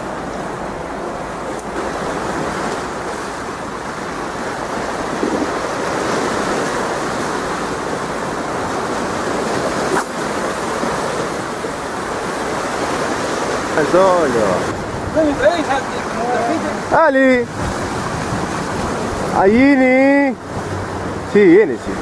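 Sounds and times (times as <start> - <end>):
sea waves breaking on rocks: 0.0 - 22.0.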